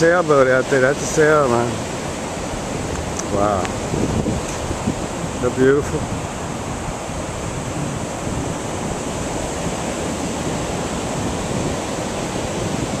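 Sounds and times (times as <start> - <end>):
small surf breaking on beach: 0.0 - 13.0
wind rumbling on microphone: 0.0 - 13.0.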